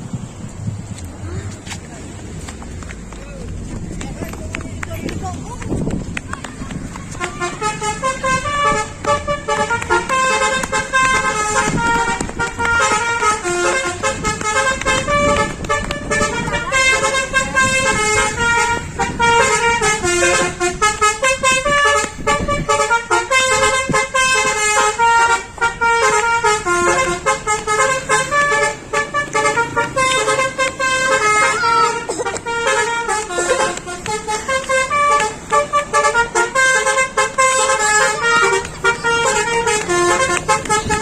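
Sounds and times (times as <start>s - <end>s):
multi-tone bus air horn tune: 7.0s - 41.0s.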